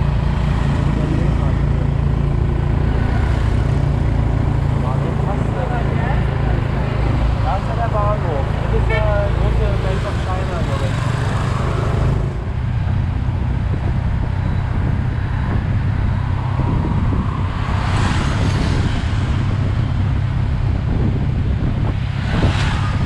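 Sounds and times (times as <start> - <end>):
road noise: 0.0 - 23.0
wind noise: 0.0 - 23.0.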